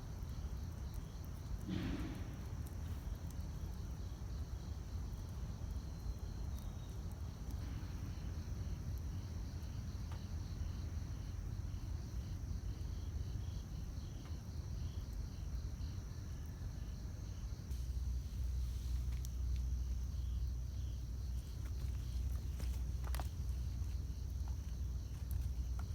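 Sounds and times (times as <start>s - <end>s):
fire crackling pops: 0.0s - 15.4s, 17.4s - 25.9s
campfire rumbling: 0.0s - 25.9s
insects chirping: 0.0s - 25.9s.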